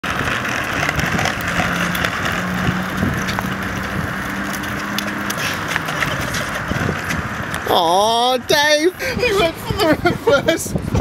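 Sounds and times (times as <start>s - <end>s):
small wheels rolling over concrete: 0.0s - 11.0s.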